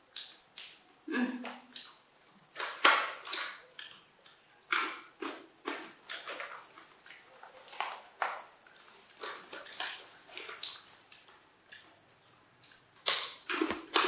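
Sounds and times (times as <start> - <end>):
crunchy peanuts being chewed: 0.1 - 14.0.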